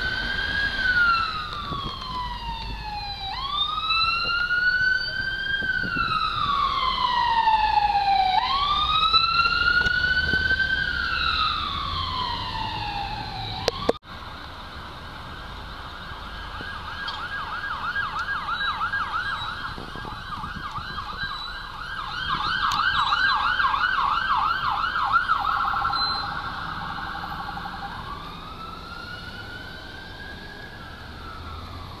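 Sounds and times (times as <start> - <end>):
police siren yelping and wailing: 0.0 - 14.0, 16.0 - 32.0.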